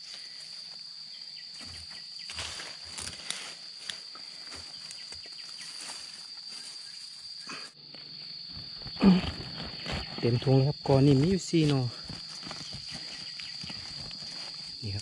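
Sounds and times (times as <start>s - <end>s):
high-pitched insect drone: 0.0s - 15.0s
rustling in undergrowth: 0.0s - 15.0s.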